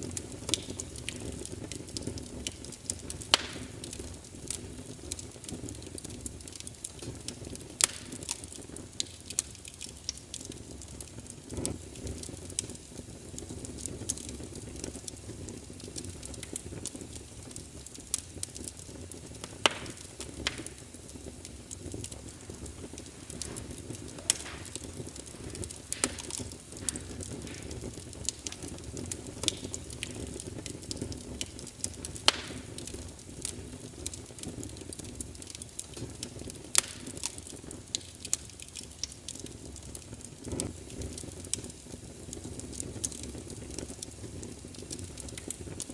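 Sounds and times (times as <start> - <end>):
fire crackling and popping: 0.0 - 45.9
low rush of flames: 0.0 - 45.9.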